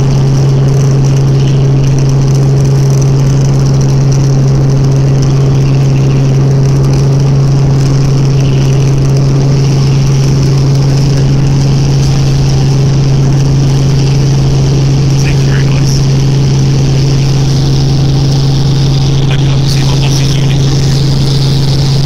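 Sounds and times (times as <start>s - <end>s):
helicopter engine and rotors droning: 0.0s - 22.0s.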